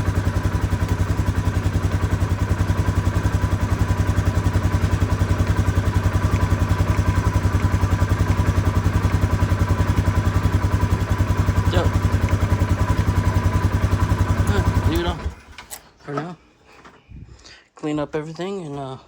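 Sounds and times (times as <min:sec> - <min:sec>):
atv engine idling: 0:00.0 - 0:15.6.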